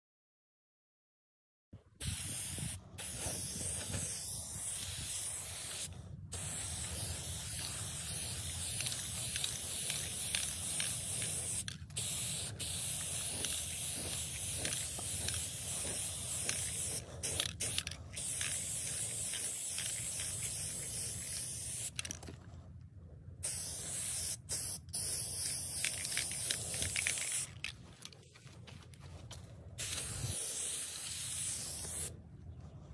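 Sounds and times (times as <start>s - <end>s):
spray paint can hissing: 2.0s - 22.2s, 23.4s - 27.7s, 29.8s - 32.1s.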